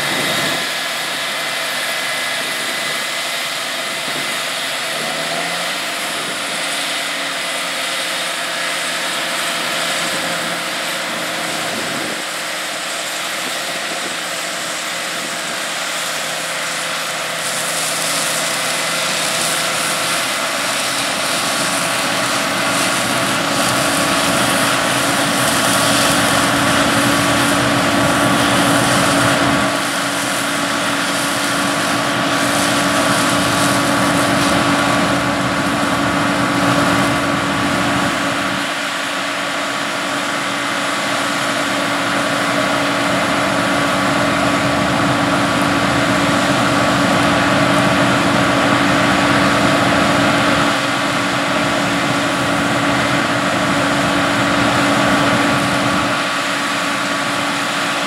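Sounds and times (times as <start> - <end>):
loud machinery drone: 0.0 - 58.0
machinery whine: 0.0 - 58.0.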